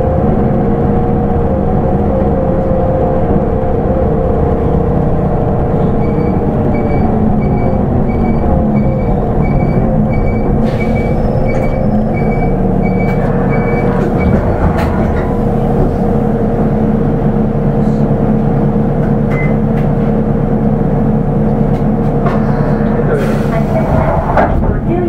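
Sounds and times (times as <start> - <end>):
bus diesel engine running: 0.0 - 25.0.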